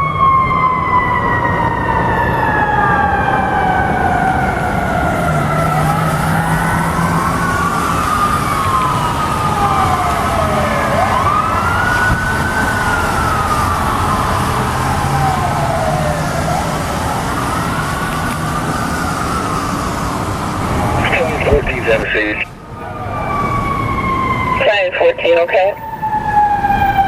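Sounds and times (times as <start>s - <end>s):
sirens wailing: 0.0s - 27.0s.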